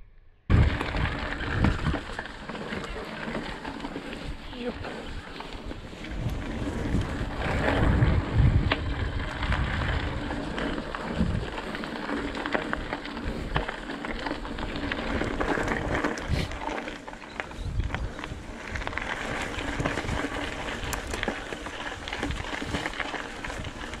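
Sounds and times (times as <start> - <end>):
wind buffeting microphone: 0.5 - 3.6, 4.2 - 16.8, 17.4 - 24.0
bike clicking and rattling: 0.5 - 24.0
bike tyres on gravel trail: 0.5 - 24.0.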